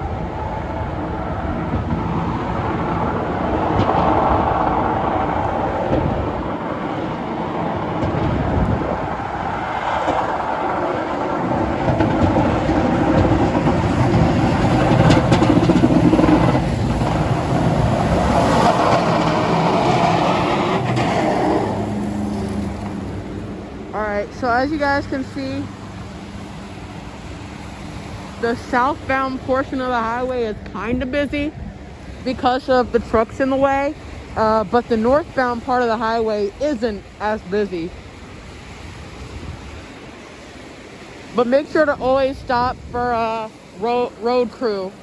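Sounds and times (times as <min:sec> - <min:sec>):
highway traffic rushing: 0:00.0 - 0:45.0.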